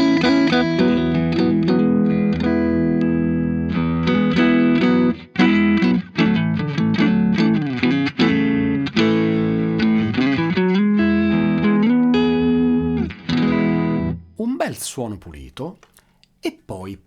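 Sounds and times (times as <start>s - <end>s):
electric guitar strumming chords: 0.0s - 14.1s.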